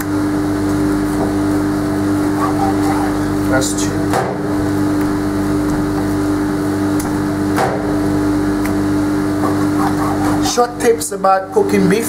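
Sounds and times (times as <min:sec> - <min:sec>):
machine hum with low drone: 0:00.0 - 0:12.0.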